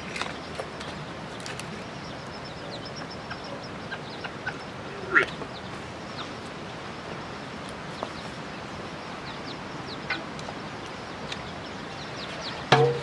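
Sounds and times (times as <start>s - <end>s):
chickens peeping and clucking: 0.0s - 13.0s
steady background hiss: 0.0s - 13.0s.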